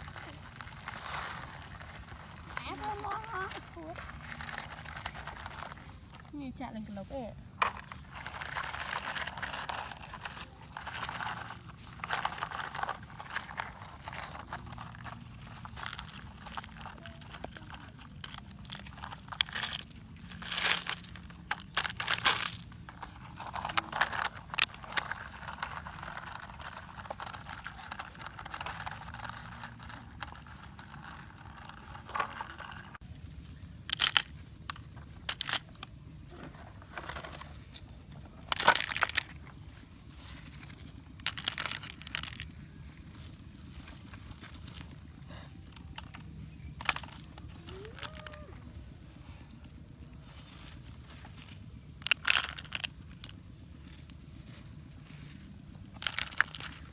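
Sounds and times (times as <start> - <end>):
small stones crunching and scraping: 0.0 - 56.9.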